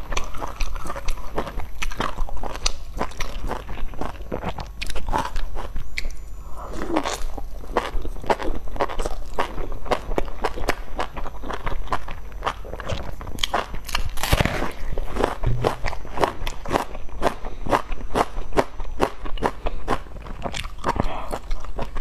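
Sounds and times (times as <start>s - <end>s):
person chewing dumplings: 0.0s - 22.0s.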